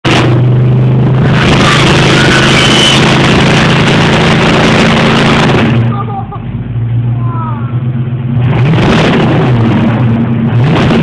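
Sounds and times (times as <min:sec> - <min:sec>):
car engine revving loud: 0:00.0 - 0:11.0
tire spinning: 0:00.0 - 0:11.0.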